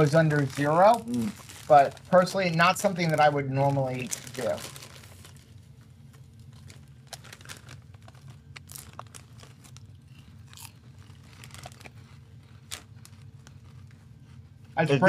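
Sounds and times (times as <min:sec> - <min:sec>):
crunchy food being chewed: 0:00.0 - 0:14.8.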